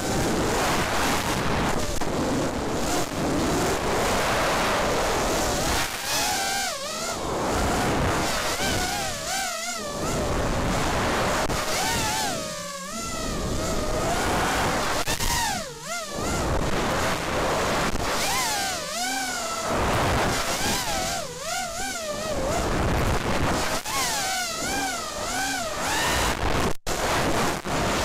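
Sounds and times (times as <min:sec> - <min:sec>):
rushing wind on microphone: 0:00.0 - 0:18.9, 0:19.5 - 0:28.0
quadcopter motors whining: 0:00.0 - 0:28.0.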